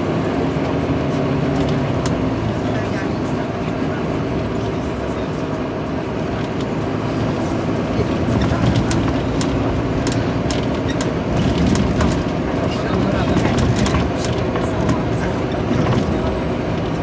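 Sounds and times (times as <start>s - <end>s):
bus diesel engine running: 0.0s - 17.0s
road and tyre noise: 0.0s - 17.0s.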